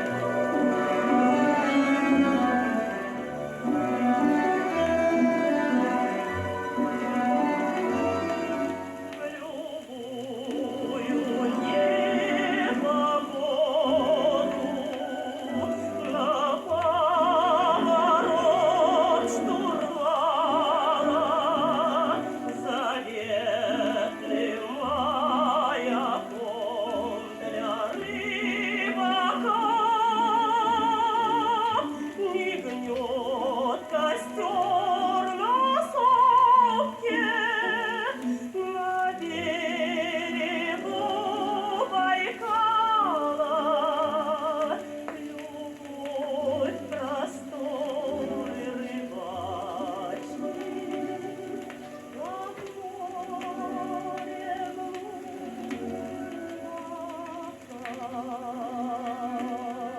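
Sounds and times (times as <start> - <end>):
orchestral song on old record: 0.0 - 59.9.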